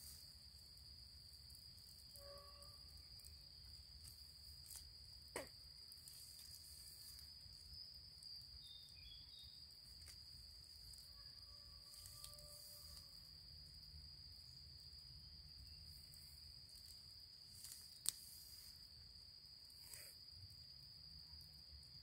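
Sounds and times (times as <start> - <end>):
high-pitched insect song: 0.0 - 22.0.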